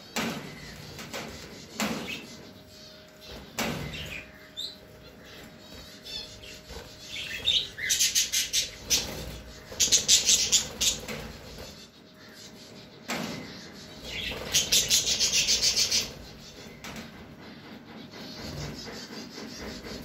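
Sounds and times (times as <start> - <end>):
budgerigars chirping: 0.6 - 16.8.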